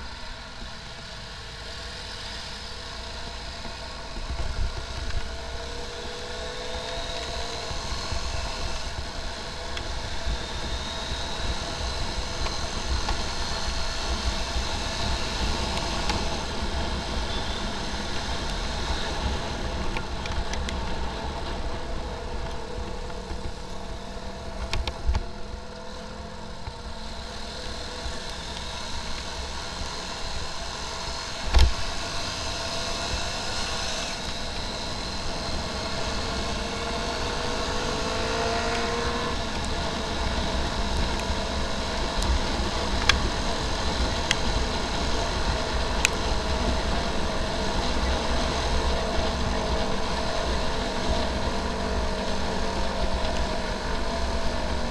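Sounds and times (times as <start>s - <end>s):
motorcycle engines in traffic: 0.0s - 54.9s.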